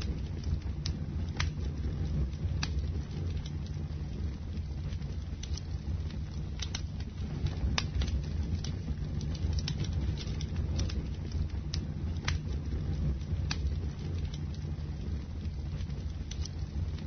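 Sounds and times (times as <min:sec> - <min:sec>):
bonfire rumbling: 0:00.0 - 0:17.0
wood crackling and popping: 0:00.0 - 0:17.0.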